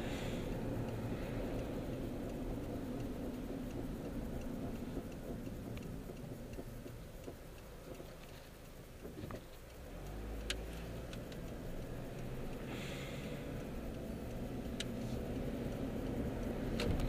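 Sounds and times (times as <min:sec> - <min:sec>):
engine and road rumble: 0:00.0 - 0:17.0
turn signal clicking: 0:00.0 - 0:17.0.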